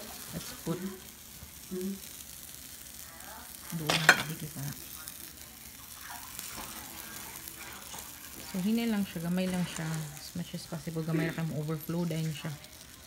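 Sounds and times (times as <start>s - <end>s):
cheese sizzling faintly: 0.0s - 13.0s.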